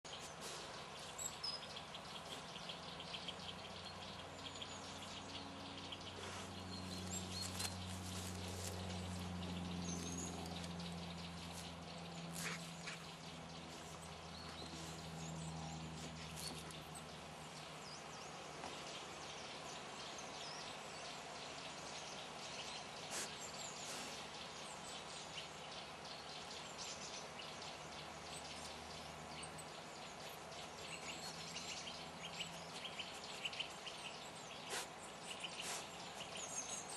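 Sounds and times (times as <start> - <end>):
small birds chirping: 0.0 - 36.9
steady low hum: 0.1 - 36.9.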